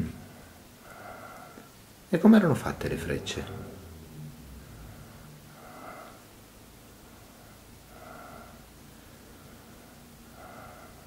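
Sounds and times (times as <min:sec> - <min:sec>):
person breathing softly: 0:00.2 - 0:01.8, 0:03.5 - 0:11.0.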